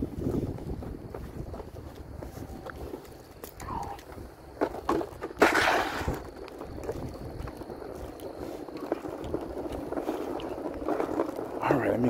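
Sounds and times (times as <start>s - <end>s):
outdoor rumble and rustle: 0.0s - 12.0s.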